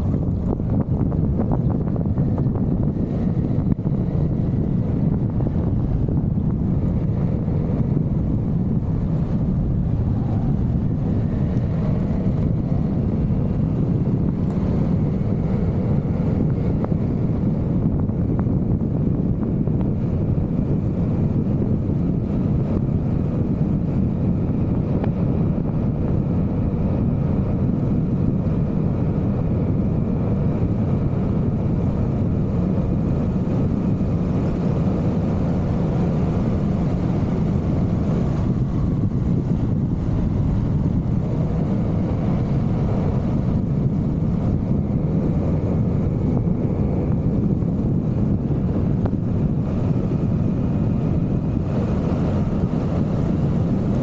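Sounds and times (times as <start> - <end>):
scooter engine cruising: 0.0 - 54.0
wind rush on microphone: 0.0 - 54.0.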